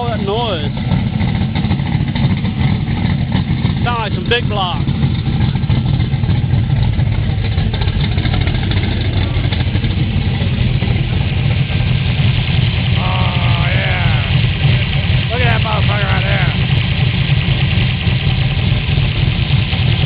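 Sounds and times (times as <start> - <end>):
race car engine idling loudly: 0.0 - 20.0.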